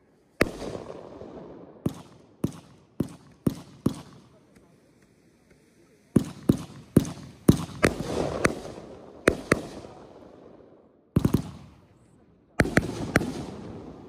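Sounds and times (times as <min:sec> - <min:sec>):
fireworks bangs with echo: 0:00.4 - 0:04.7, 0:06.1 - 0:14.0.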